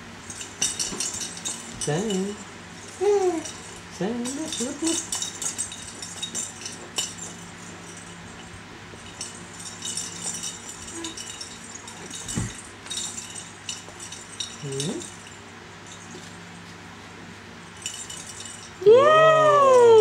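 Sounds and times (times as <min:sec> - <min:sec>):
toy rattle ball rattling: 0:00.1 - 0:16.6, 0:17.6 - 0:20.0.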